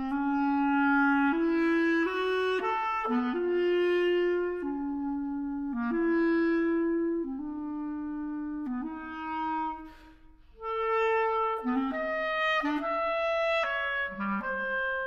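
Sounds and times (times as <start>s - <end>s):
solo clarinet playing: 0.0s - 15.0s.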